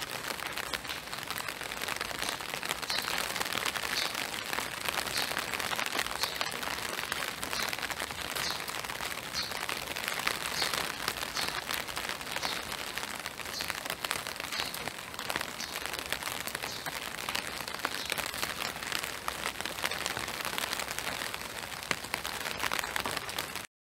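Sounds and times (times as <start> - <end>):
raindrops ticking: 0.0 - 23.7
steady rain hiss: 0.0 - 23.7.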